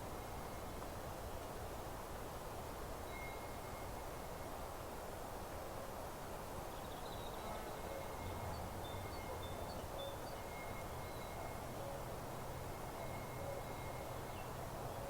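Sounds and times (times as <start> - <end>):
wind rustling grass and leaves: 0.0 - 15.0.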